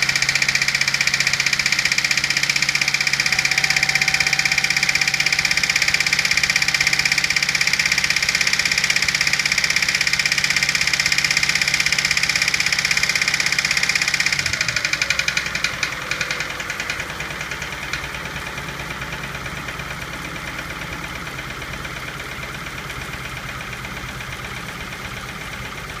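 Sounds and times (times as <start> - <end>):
car engine knocking: 0.0 - 26.0.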